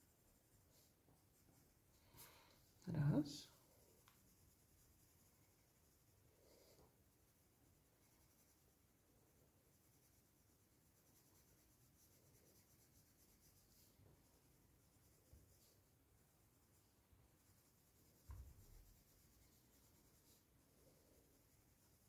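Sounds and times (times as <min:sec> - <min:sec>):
pencil scratching on paper: 0:04.0 - 0:22.0.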